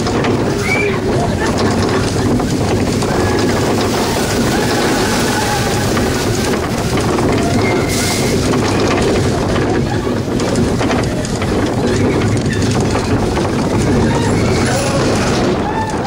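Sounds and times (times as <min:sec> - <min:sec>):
roller coaster wheels rumbling: 0:00.0 - 0:16.0
wind on microphone: 0:00.0 - 0:16.0.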